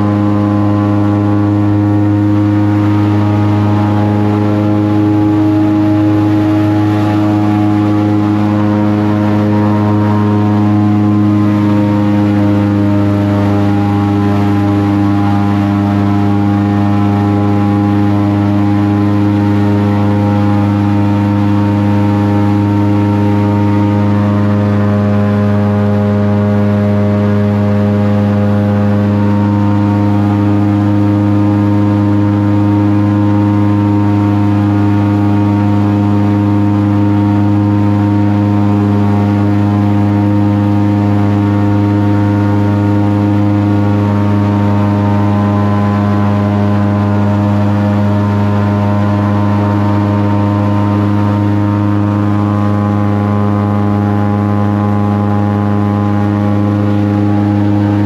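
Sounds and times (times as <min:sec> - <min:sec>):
airboat engine and propeller drone: 0:00.0 - 0:58.0.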